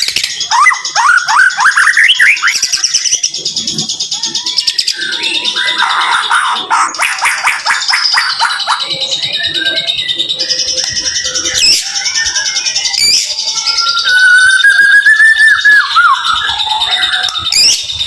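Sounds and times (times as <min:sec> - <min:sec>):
bird whistle: 0:00.0 - 0:03.1, 0:04.9 - 0:18.0
songbird singing chirps and trills: 0:00.0 - 0:18.0.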